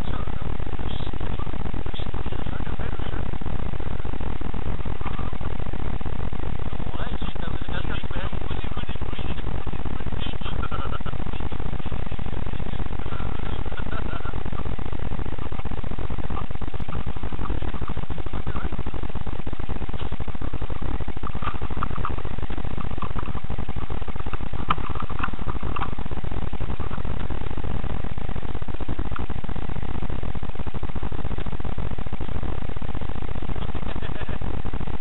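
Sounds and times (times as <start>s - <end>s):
loud static hiss: 0.0s - 35.0s.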